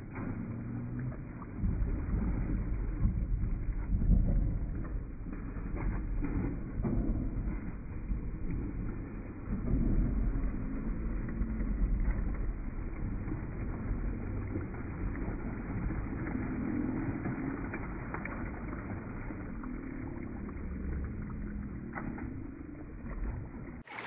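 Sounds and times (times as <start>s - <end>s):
pool water splashing: 0.0s - 24.0s
steady low rumble: 0.0s - 24.0s.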